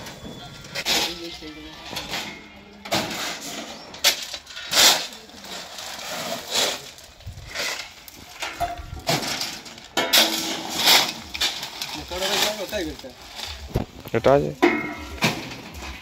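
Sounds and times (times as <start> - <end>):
shovels scraping crushed stone: 0.7 - 16.0.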